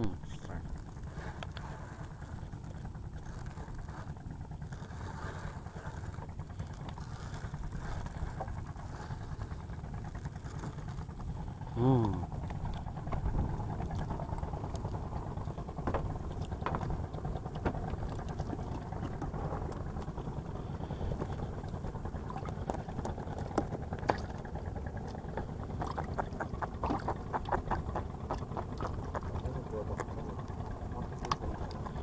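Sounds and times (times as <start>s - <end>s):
steady low rumble: 0.0s - 32.0s
clicks and knocks handling fish: 0.7s - 32.0s.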